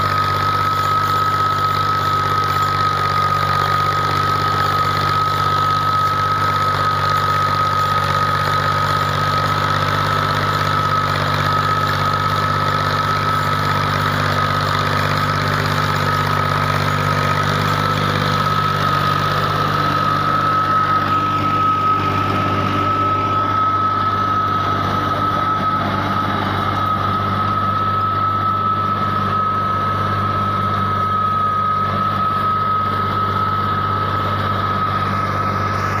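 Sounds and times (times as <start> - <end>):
diesel tractor engine idling: 0.0 - 36.0
high-pitched whine: 0.0 - 36.0.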